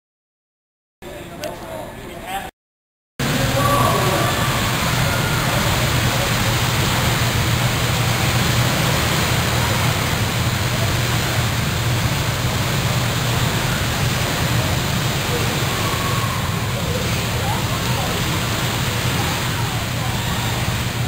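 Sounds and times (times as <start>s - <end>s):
many go-kart engines droning: 3.2s - 21.0s.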